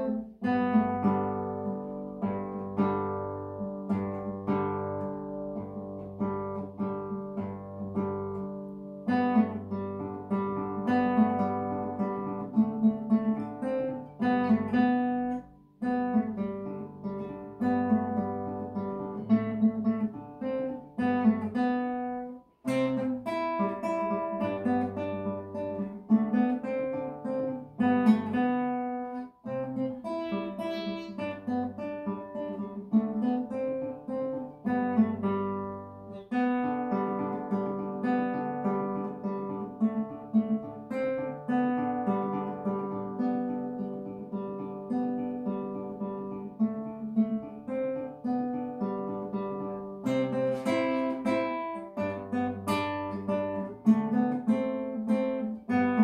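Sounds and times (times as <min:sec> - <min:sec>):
fingerpicked classical guitar: 0:00.0 - 0:56.0.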